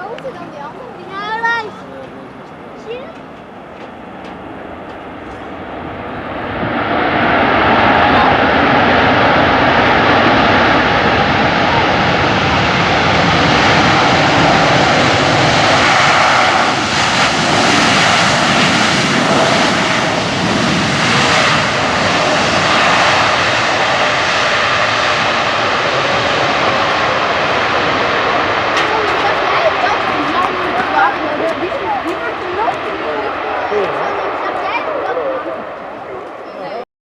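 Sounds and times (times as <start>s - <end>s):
faint engine whine: 0.0s - 36.8s
jet airliner engines roaring: 0.0s - 36.8s.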